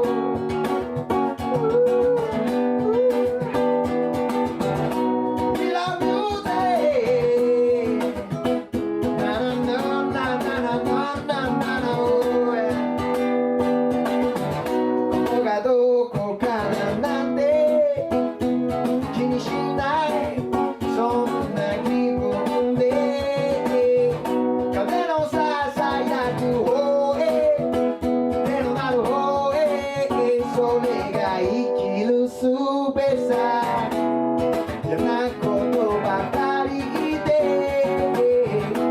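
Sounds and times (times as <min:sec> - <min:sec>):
person singing: 0:00.0 - 0:13.4, 0:15.1 - 0:34.0, 0:34.6 - 0:38.9
acoustic guitar strumming: 0:00.0 - 0:38.9.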